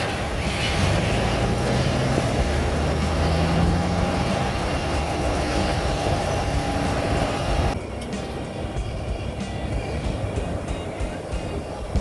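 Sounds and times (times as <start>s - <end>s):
jet airliner engines running: 0.0s - 12.0s.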